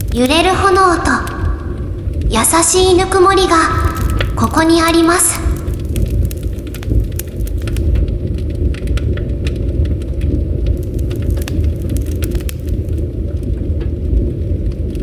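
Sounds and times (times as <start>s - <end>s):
low rush of flame: 0.0s - 15.0s
wood crackling and popping: 0.0s - 15.0s.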